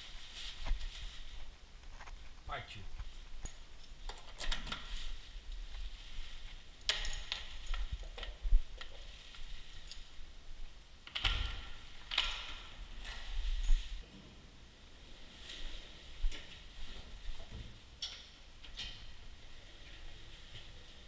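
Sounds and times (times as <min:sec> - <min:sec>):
person moving about: 0:00.0 - 0:10.8, 0:11.7 - 0:21.0.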